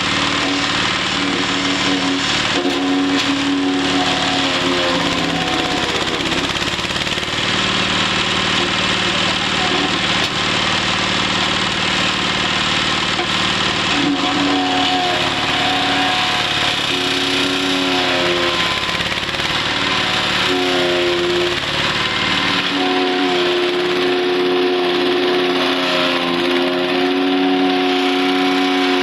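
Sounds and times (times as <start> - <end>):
wood chipper running: 0.0 - 29.0.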